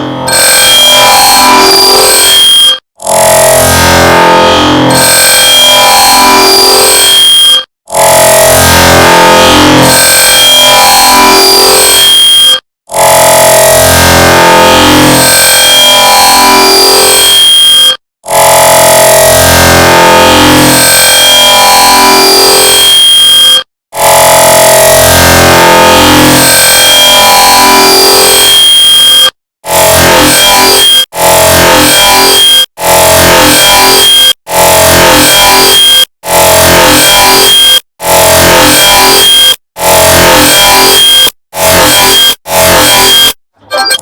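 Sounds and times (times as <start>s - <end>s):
overlapping alarm beeps: 0.0s - 2.8s, 4.5s - 44.0s.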